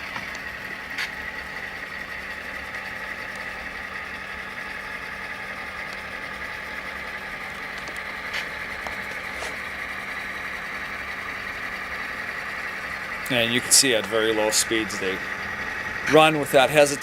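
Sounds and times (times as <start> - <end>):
model locomotive diesel engine: 0.0 - 17.0.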